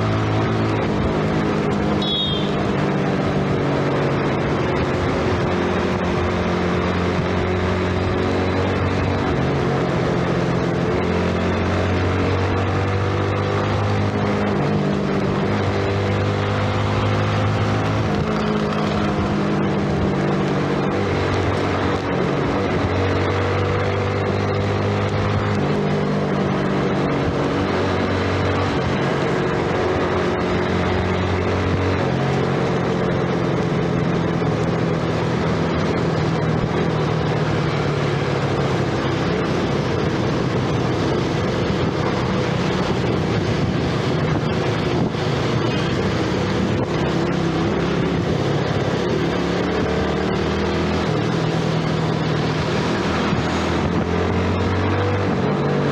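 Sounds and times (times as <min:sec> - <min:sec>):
motorcycle engine running: 0:00.0 - 0:55.9
tyre and wind noise: 0:02.6 - 0:55.9.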